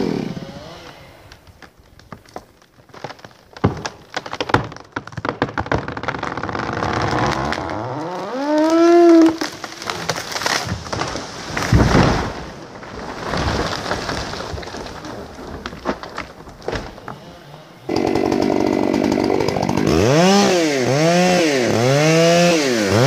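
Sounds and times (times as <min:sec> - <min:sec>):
tree trunk creaking groan: 0:00.0 - 0:20.4
wood cracking and snapping: 0:00.6 - 0:23.0
tree crashing down: 0:01.3 - 0:23.0.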